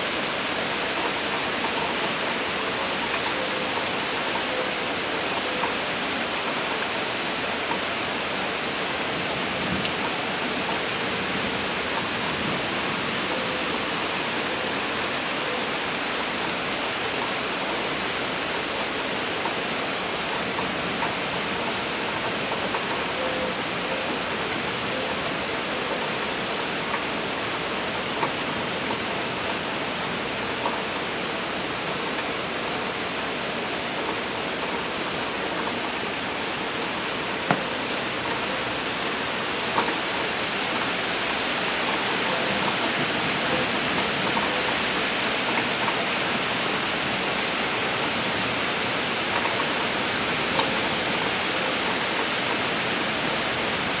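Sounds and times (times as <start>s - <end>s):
sharp rain taps: 0.0s - 54.0s
steady rain falling: 0.0s - 54.0s.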